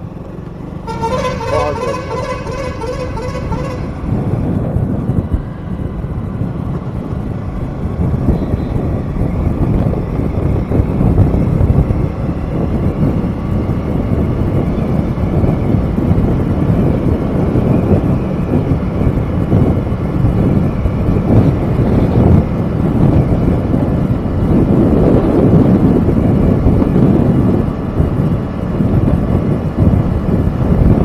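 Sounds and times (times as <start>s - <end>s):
road and vehicle rumble: 0.0s - 31.0s
wind buffeting microphone: 0.0s - 31.0s.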